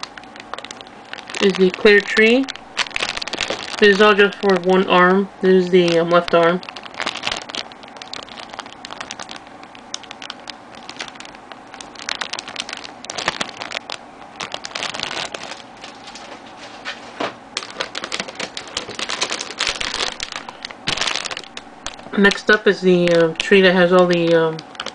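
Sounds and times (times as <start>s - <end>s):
plastic bags crinkling: 0.0s - 24.9s.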